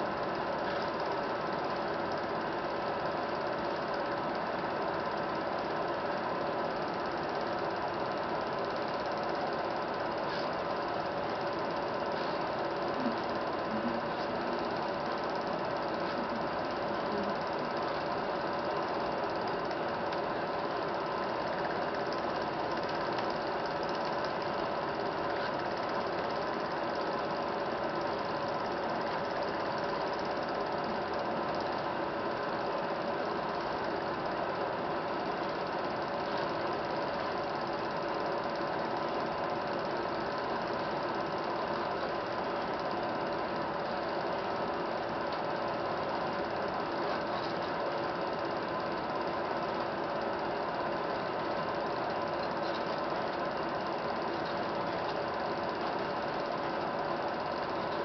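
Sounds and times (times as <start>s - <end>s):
faint hum: 0.0s - 58.0s
film projector whirring: 0.0s - 58.0s.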